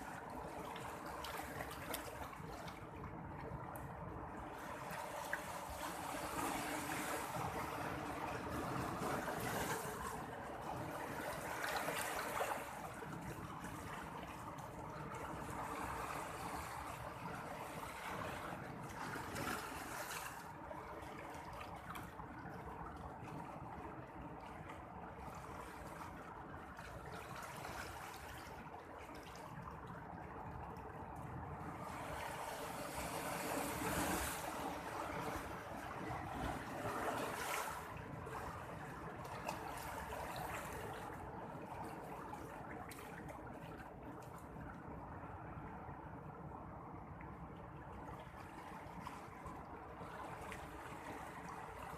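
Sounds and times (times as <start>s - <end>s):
sea water lapping: 0.0s - 51.9s.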